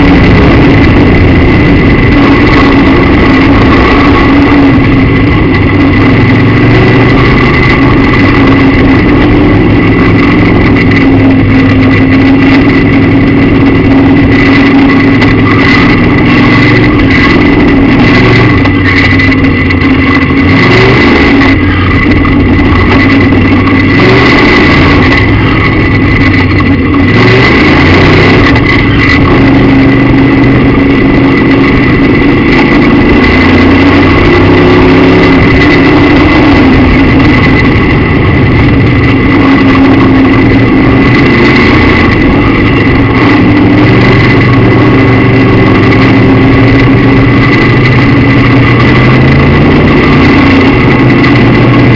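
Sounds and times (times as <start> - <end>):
race car engine at speed: 0.0 - 51.9.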